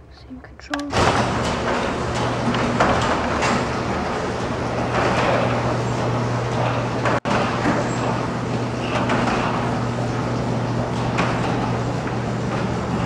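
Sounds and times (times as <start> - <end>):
garage door opener humming: 0.7 - 13.0.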